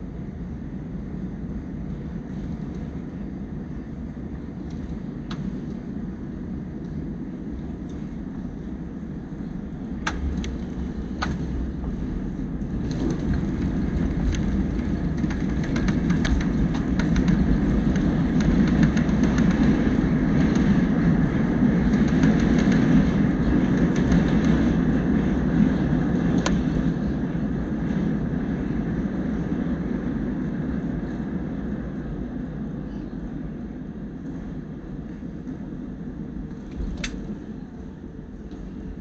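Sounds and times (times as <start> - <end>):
airplane cabin roar: 0.0 - 39.0.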